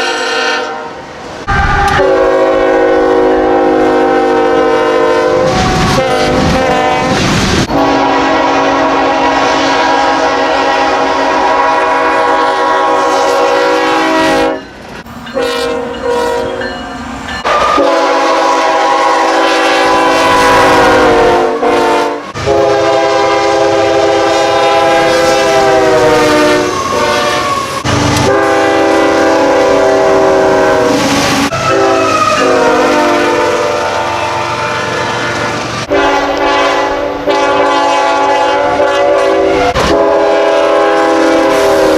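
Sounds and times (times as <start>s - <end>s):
locomotive horn blasts: 0.0s - 16.8s, 17.4s - 41.9s.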